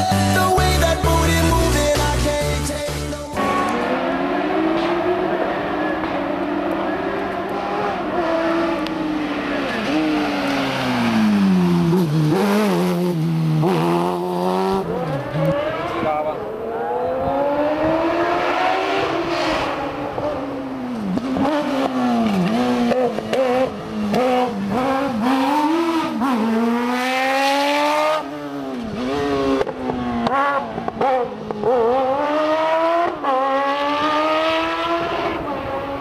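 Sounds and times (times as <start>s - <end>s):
race car engine accelerating: 3.4s - 36.0s.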